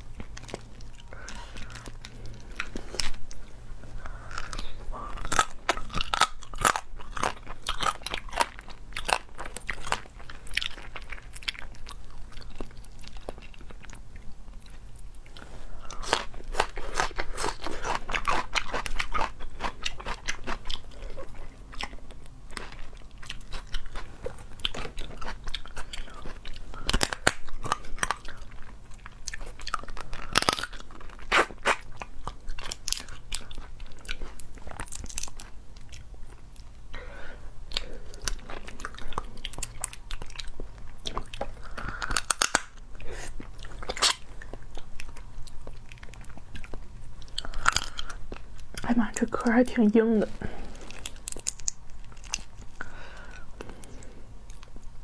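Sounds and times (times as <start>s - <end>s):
chewing crabs: 0.0s - 55.0s
crab shells cracking: 4.0s - 14.0s, 15.9s - 36.0s, 37.7s - 48.8s, 50.8s - 54.8s.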